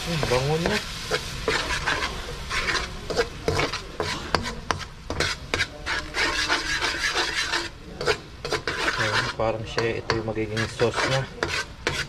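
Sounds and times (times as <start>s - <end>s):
sauce sizzling in a pan: 0.0s - 12.0s
utensil scraping and knocking pan: 0.2s - 12.0s.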